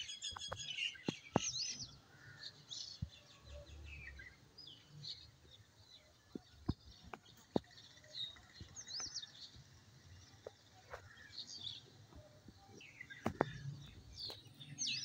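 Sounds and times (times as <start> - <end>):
faint outdoor background: 0.0 - 15.0
small birds chirping: 0.0 - 15.0.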